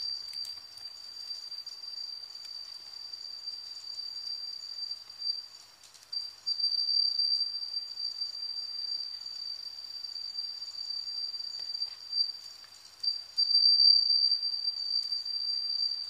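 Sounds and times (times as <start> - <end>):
insect trilling: 0.0 - 16.0.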